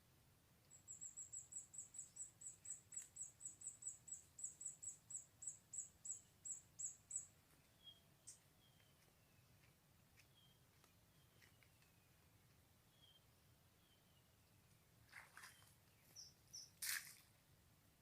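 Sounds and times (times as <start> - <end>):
small bird chirping: 0.6 - 17.3.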